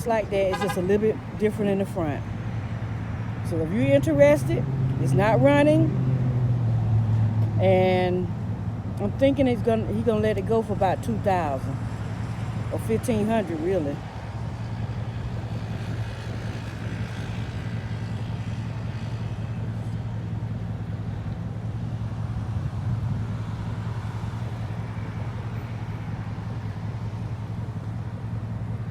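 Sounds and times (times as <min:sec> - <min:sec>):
motor vehicle engine hum: 0:00.0 - 0:28.9
road traffic noise: 0:00.0 - 0:28.9.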